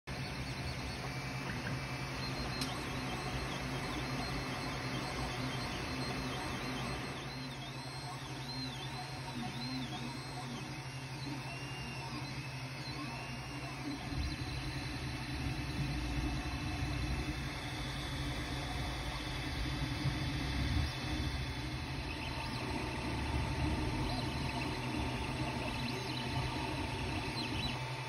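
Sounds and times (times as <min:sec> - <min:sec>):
cooling fans humming: 0:00.1 - 0:28.0
stepper motors whining: 0:00.1 - 0:28.0.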